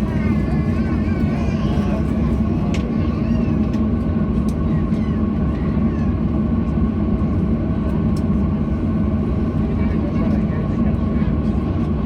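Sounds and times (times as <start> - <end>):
air-conditioning drone and whine: 0.0 - 12.0
faint passenger chatter: 0.0 - 12.0.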